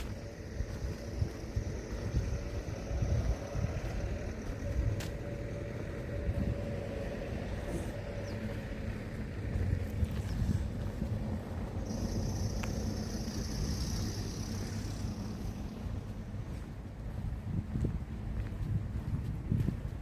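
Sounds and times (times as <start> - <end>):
faint steady hum: 0.0 - 18.5
low fluctuating rumble: 0.0 - 20.0.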